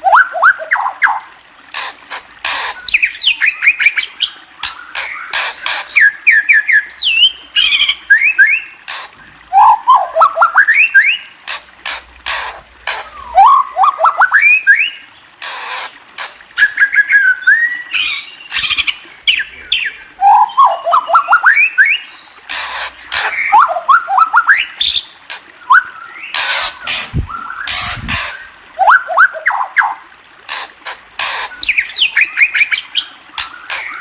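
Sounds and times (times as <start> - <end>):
songbird calling: 0.0 - 34.0.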